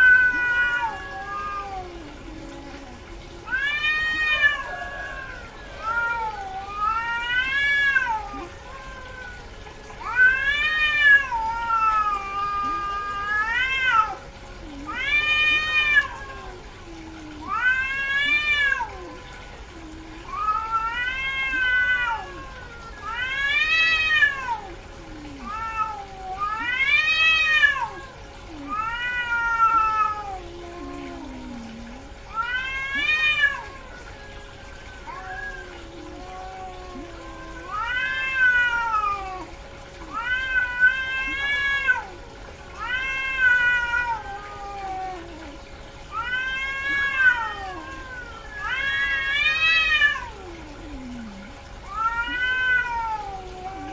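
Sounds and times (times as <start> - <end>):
cat yowling: 0.0 - 53.9.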